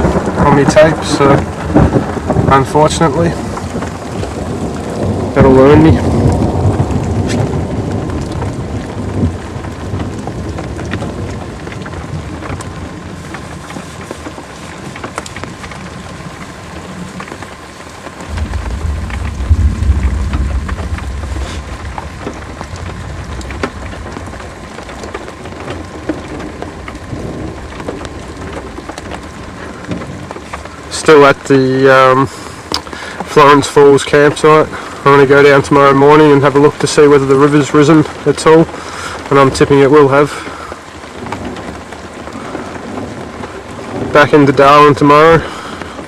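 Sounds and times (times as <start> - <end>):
heavy rain on a car: 0.0 - 46.0
low rumble of thunder: 0.0 - 46.0.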